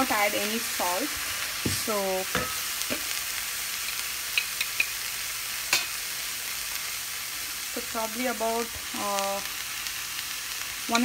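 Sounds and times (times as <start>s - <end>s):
cabbage sizzling in a pan: 0.0s - 11.0s.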